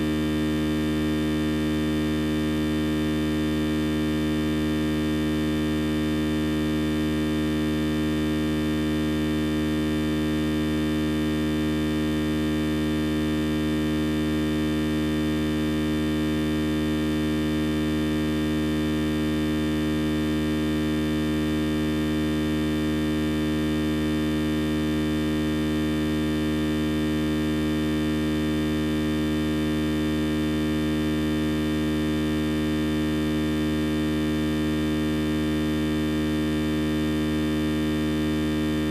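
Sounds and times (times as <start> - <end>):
electrical hum and buzz: 0.0 - 38.9.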